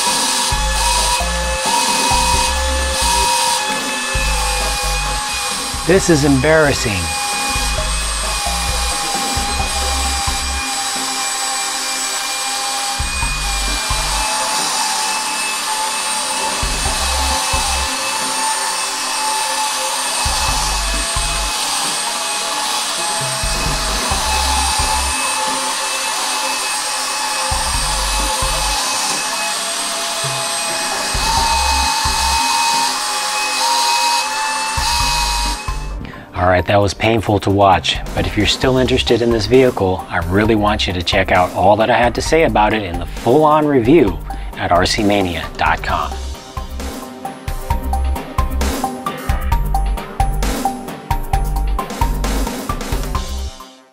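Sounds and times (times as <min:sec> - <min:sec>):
toy suction fan whining: 0:00.0 - 0:53.9.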